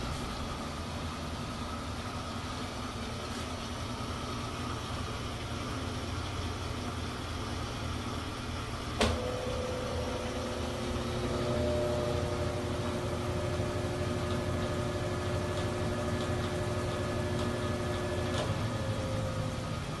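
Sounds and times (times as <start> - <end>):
faint steady whine: 0.0 - 20.0
washing machine humming: 0.0 - 20.0.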